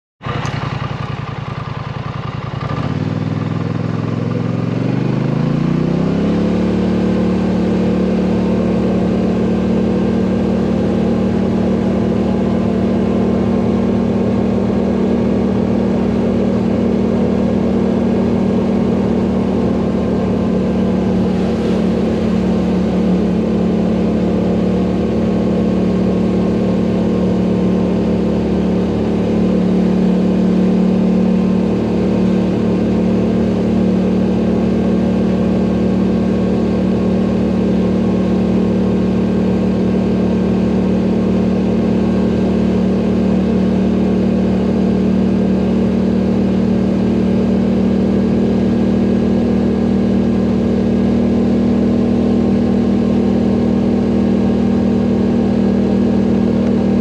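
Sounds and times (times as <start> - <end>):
atv engine pulling away: 0.2 - 57.0.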